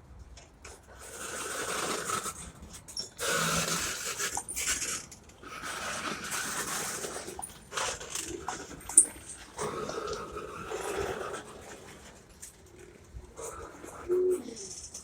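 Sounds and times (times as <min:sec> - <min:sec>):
train clicks and clanks: 0:00.2 - 0:15.0.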